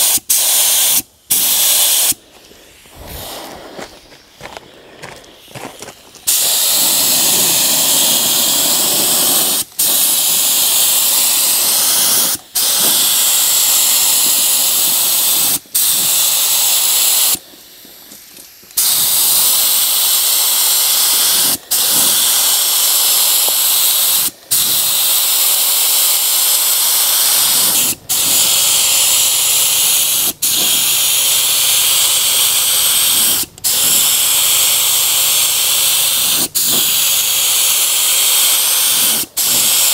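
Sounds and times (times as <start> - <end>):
spray gun air hiss: 0.0 - 39.9.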